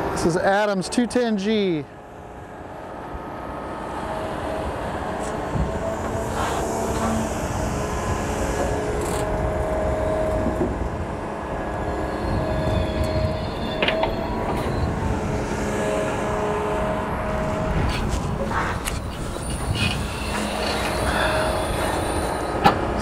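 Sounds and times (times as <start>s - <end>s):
hydraulics whining: 2.2s - 23.0s
excavator running under load: 2.8s - 23.0s.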